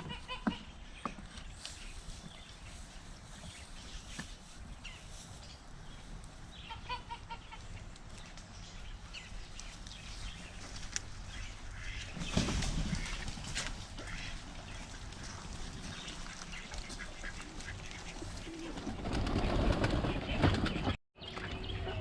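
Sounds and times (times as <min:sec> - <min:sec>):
chickens and ducks calling: 0:00.0 - 0:22.0.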